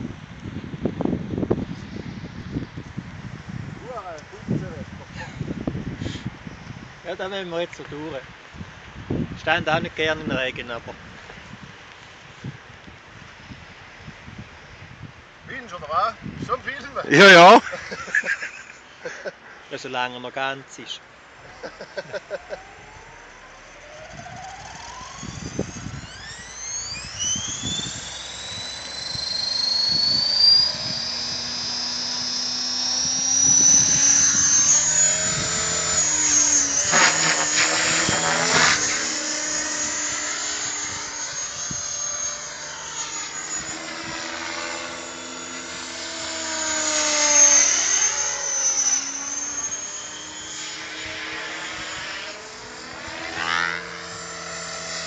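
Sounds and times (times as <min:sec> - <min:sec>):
rc helicopter rotor whine: 0:00.0 - 0:19.8, 0:20.6 - 0:55.0.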